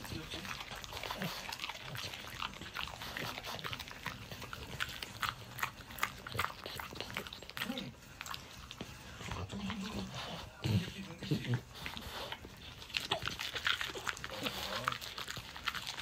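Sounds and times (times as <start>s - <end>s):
dog crunching cabbage: 0.0s - 16.0s.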